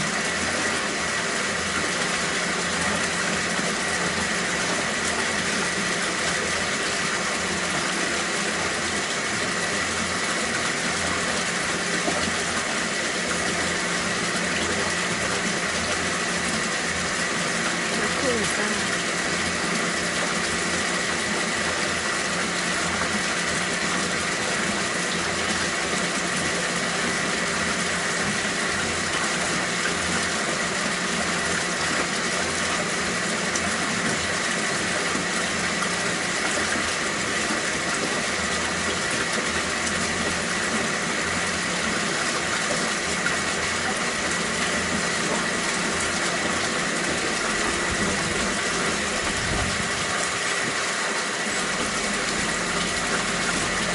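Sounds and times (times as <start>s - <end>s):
water pump humming: 0.0s - 53.9s
water running: 0.0s - 53.9s.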